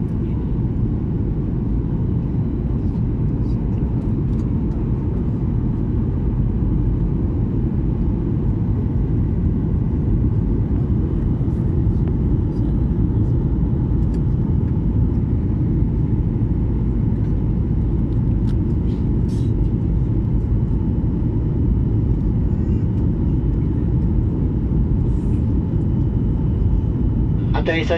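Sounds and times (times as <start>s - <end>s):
low rumble of jet engines: 0.0s - 27.9s.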